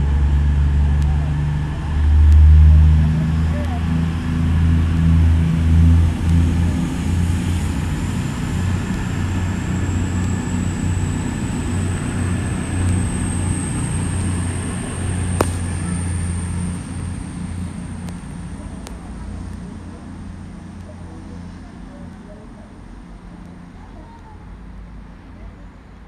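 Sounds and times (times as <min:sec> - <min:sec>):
high whine: 0:00.0 - 0:20.9
electric train passing: 0:00.0 - 0:21.8.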